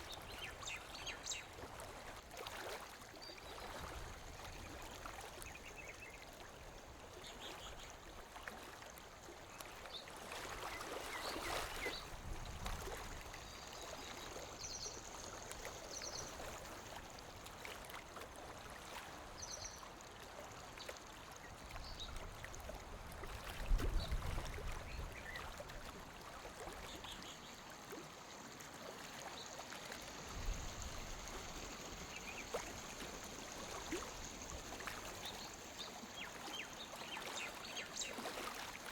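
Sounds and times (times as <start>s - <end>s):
lake water lapping on shore: 0.0s - 38.9s.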